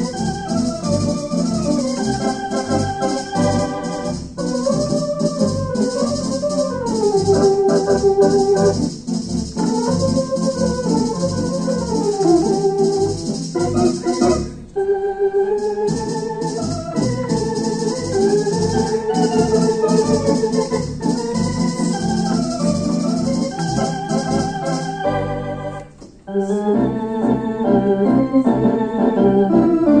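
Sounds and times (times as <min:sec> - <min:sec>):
high rhythmic percussion: 0:00.0 - 0:14.6, 0:15.6 - 0:25.0
theatre organ playing chords: 0:00.0 - 0:30.0.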